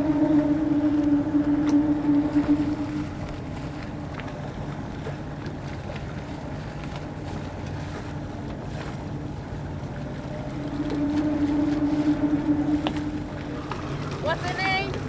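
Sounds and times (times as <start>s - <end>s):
boat engines humming: 0.0s - 15.0s
louder boat engine tone: 0.0s - 15.0s.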